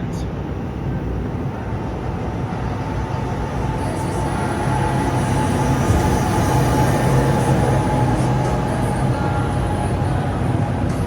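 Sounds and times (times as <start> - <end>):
train hum and rumble: 0.0 - 11.0
high squeal of train wheels: 1.6 - 11.0.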